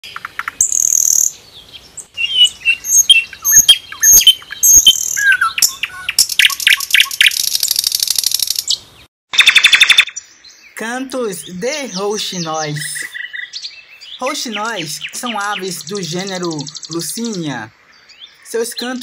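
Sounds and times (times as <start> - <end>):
nightingale singing: 0.0 - 19.0.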